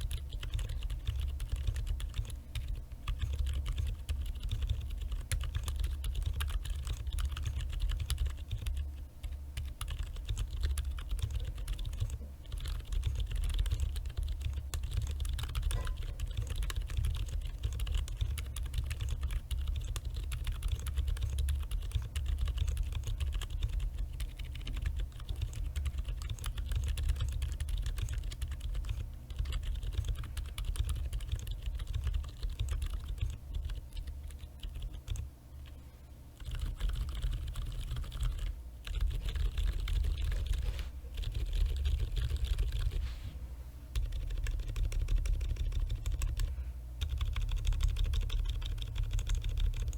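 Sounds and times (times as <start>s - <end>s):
quiet mechanical keyboard typing: 0.0s - 43.0s, 43.9s - 49.9s.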